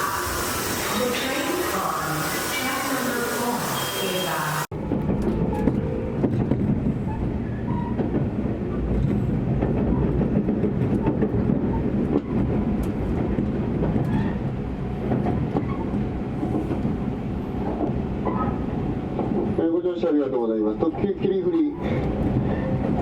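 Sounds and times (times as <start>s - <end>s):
train rumble from inside: 0.0s - 23.0s.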